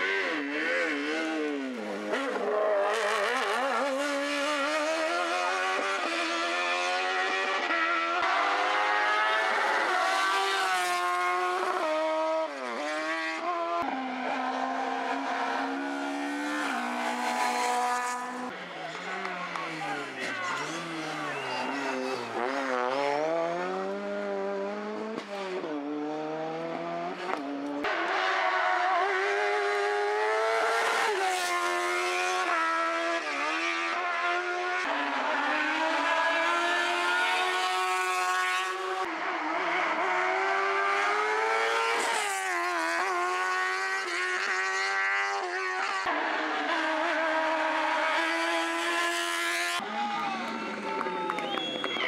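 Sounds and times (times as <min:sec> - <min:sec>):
racing car engines revving: 0:00.0 - 0:52.0.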